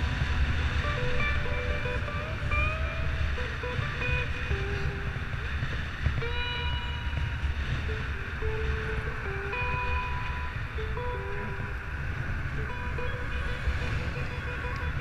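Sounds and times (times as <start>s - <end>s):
music with held notes: 0.0s - 15.0s
wind rushing over microphone: 0.0s - 15.0s.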